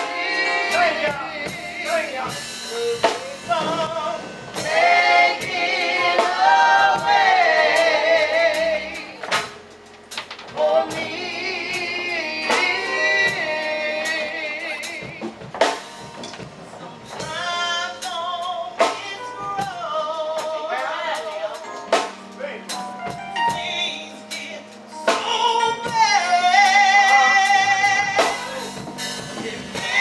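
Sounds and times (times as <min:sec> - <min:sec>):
women singing gospel: 0:00.0 - 0:09.7, 0:10.5 - 0:15.8, 0:16.8 - 0:22.1, 0:23.5 - 0:30.0.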